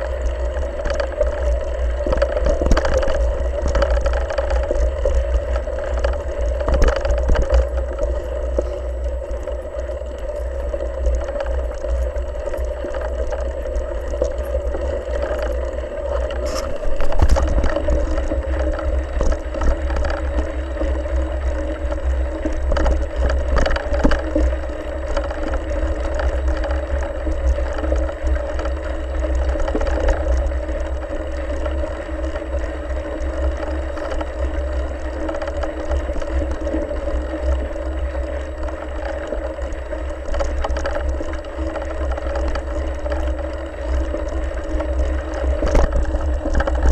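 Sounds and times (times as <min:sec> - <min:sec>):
bike rattling over bumps: 0:00.0 - 0:46.9
steady hum: 0:00.0 - 0:46.9
wind and vibration rumble: 0:00.0 - 0:46.9.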